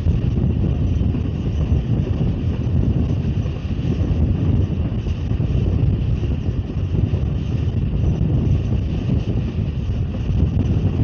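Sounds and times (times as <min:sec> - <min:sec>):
passenger train rumbling: 0:00.0 - 0:11.0
wind on microphone: 0:00.0 - 0:11.0.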